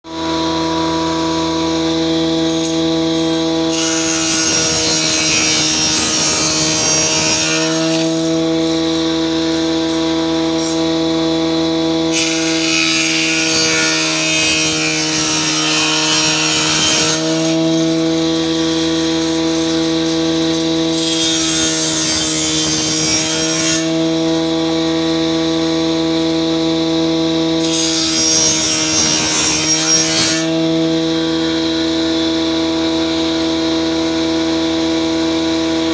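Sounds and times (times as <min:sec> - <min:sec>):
power tool cutting wood: 0:00.1 - 0:35.9.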